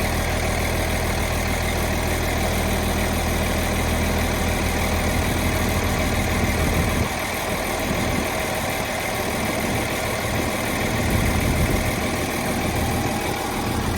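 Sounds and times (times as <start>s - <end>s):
excavator diesel engine rumbling: 0.0s - 13.9s.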